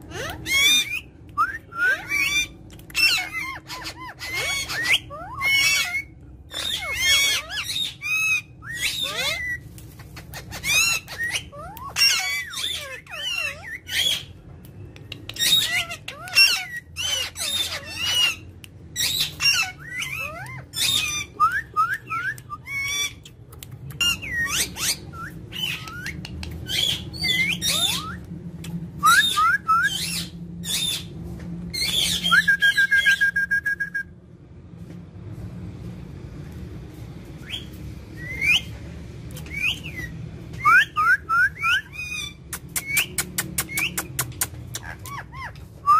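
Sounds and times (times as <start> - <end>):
parakeet squawking and chirping: 0.0 - 33.4, 37.3 - 45.9.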